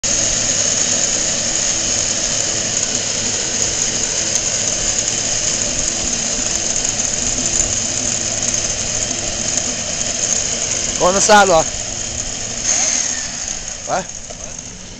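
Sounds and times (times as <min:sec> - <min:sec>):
road and wind noise: 0:00.0 - 0:14.9
small engine running: 0:00.0 - 0:14.9.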